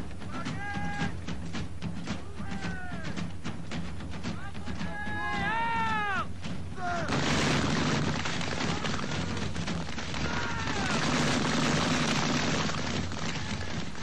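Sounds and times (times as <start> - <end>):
musket volley crackle: 0.0 - 14.0.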